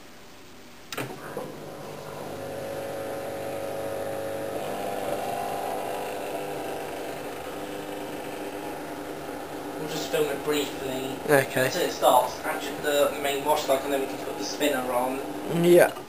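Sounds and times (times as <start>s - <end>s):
dishwasher pump motor humming: 1.0s - 15.6s.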